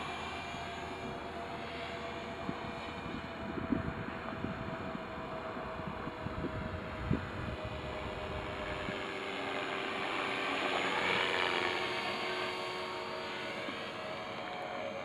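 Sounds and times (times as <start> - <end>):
rc helicopter motor whine: 0.0 - 15.0.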